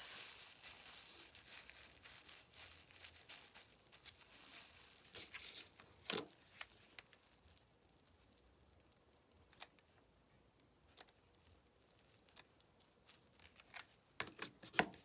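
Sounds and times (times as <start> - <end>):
plastic bag crinkling: 0.0 - 10.0, 10.9 - 14.2.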